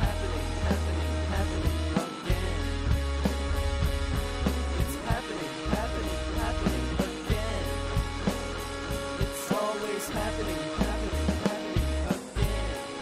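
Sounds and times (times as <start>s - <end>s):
lo-fi rock band playing: 0.0s - 13.0s.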